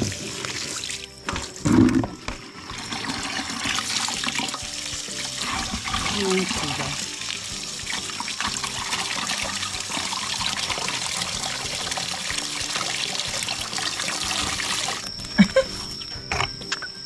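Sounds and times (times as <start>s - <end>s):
hose water splashing into bucket: 0.0s - 15.1s
background music: 0.0s - 17.0s.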